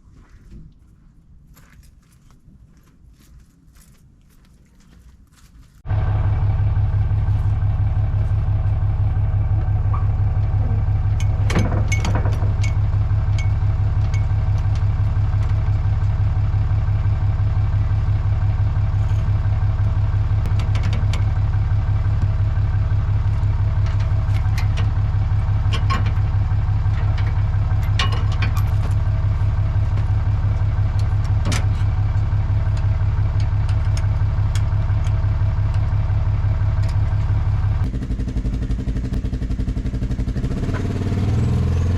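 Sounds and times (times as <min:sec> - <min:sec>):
engine idling: 0:05.8 - 0:41.9.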